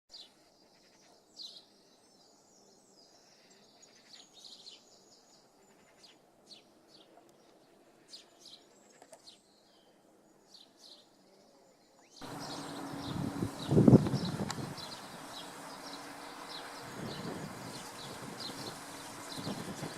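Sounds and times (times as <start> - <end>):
faint outdoor background: 0.1 - 19.9
small birds chirping: 0.1 - 19.9.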